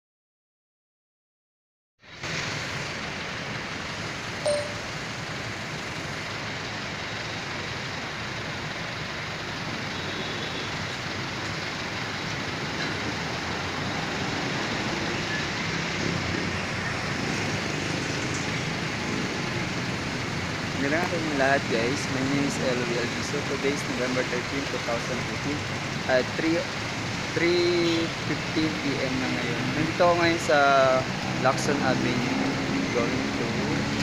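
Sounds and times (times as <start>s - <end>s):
road traffic rumble: 2.0s - 34.0s.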